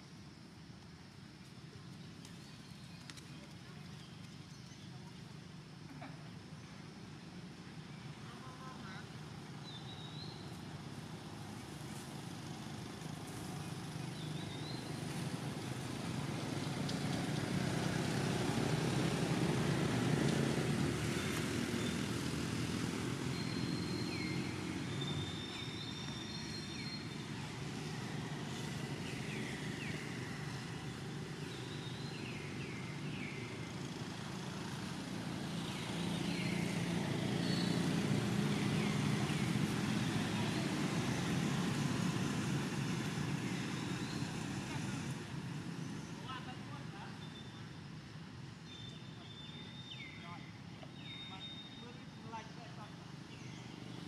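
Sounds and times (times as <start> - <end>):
passing motor traffic rumble: 0.0 - 54.0.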